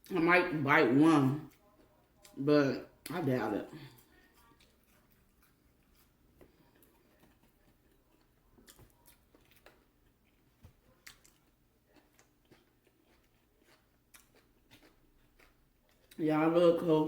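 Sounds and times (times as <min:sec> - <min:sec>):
chewing and crunching food: 0:00.0 - 0:17.0.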